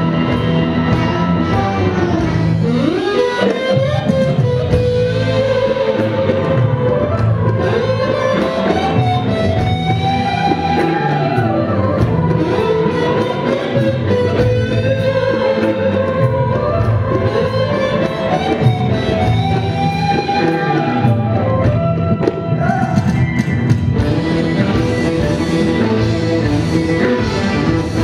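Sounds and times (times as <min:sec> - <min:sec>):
electric guitar sliding melody: 0:00.0 - 0:28.0
live band playing: 0:00.0 - 0:28.0.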